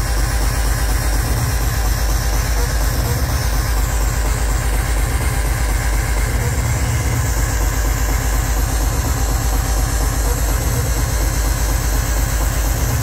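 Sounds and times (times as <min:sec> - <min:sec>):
heavy kick drum: 0:00.0 - 0:13.0.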